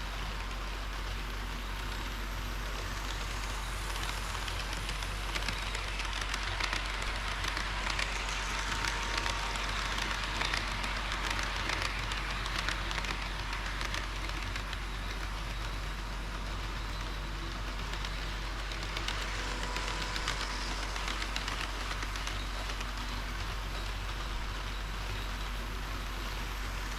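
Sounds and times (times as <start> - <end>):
model train rolling on track: 0.0 - 26.9
wheels clicking on rails: 0.0 - 26.9.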